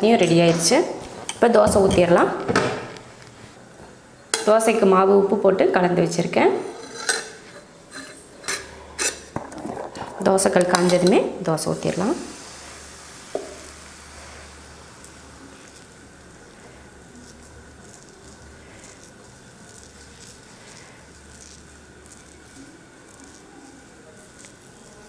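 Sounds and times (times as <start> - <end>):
soft sizzling crackles: 0.0 - 5.4, 6.0 - 25.0.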